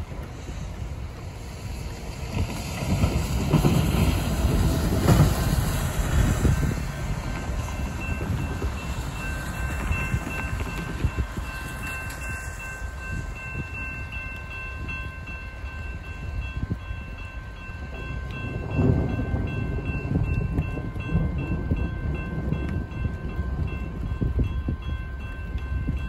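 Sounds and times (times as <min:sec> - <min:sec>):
freight train rumbling: 0:00.0 - 0:26.0
crossing warning bell ringing: 0:03.6 - 0:26.0.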